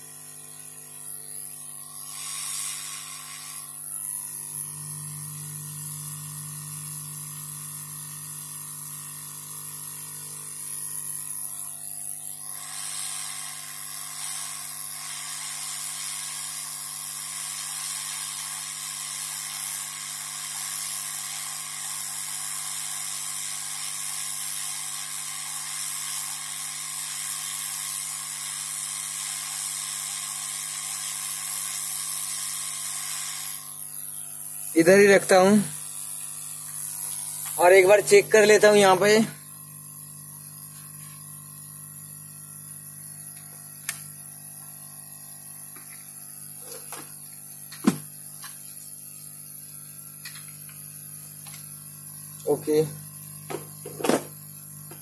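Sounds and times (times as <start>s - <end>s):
hot air blower hissing: 1.1s - 7.0s, 12.4s - 50.8s, 51.4s - 55.0s.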